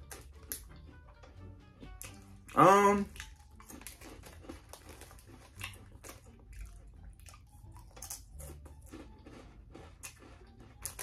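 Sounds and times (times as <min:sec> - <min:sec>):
crackers crunching: 0:00.0 - 0:11.0.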